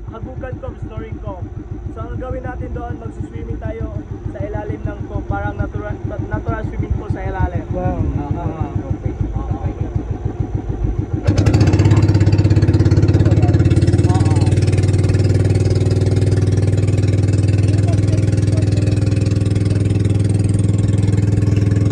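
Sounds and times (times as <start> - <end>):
boat engine chugging: 0.0 - 21.9.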